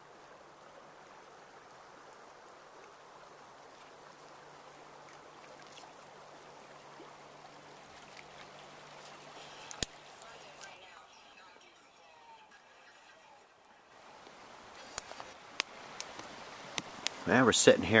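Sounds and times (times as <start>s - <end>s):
river flowing over stones: 0.0s - 18.0s.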